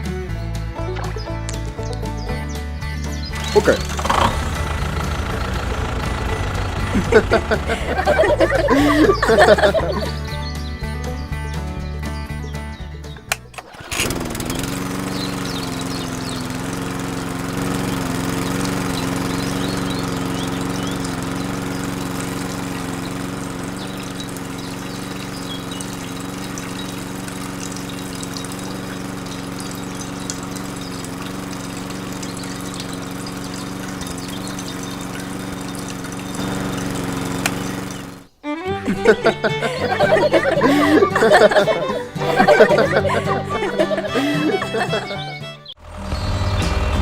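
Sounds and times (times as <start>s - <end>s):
small electric motor humming: 3.3s - 10.1s, 13.6s - 38.4s, 39.0s - 45.2s.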